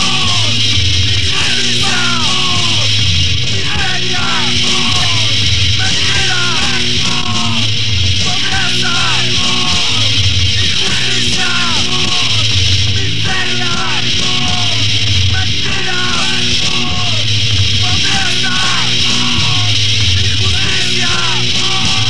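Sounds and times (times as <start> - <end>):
hardcore punk band playing: 0.0 - 22.0.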